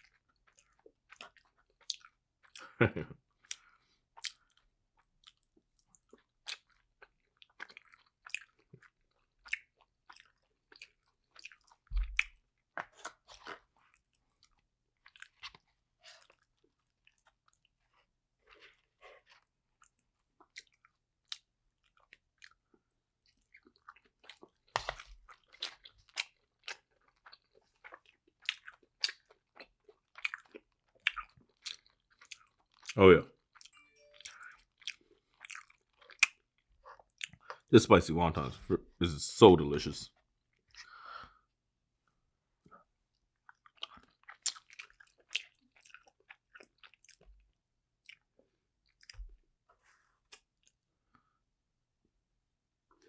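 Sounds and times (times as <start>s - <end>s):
close chewing and mouth clicks: 0.0s - 37.7s, 40.1s - 51.4s.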